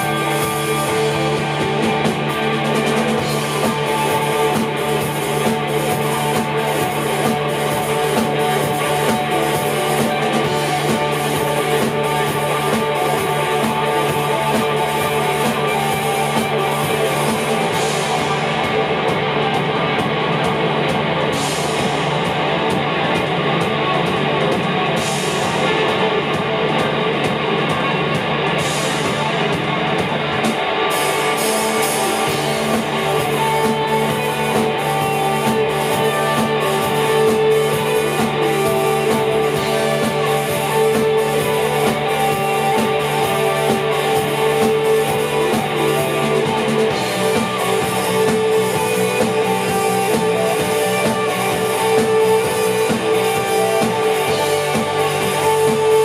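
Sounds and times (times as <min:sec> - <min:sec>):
drum kit cymbal beat: 0:00.0 - 0:56.0
electric guitars playing rock: 0:00.0 - 0:56.0.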